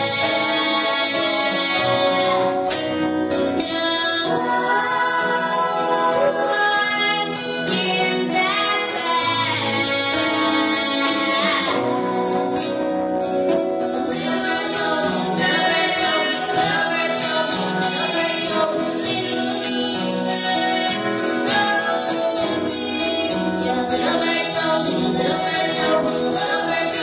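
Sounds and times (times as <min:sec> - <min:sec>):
live band music: 0:00.0 - 0:27.0
woman singing: 0:00.0 - 0:27.0.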